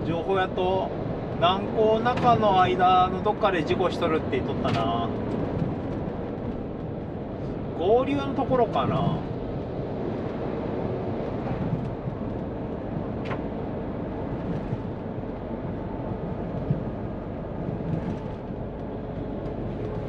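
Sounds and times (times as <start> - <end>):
diesel engine drone: 0.0 - 20.0
tyre and road noise: 0.0 - 20.0.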